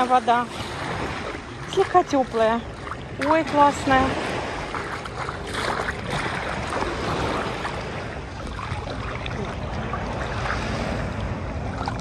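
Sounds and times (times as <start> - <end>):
sea water sloshing around wader: 0.0 - 12.0
wind on microphone: 0.0 - 12.0.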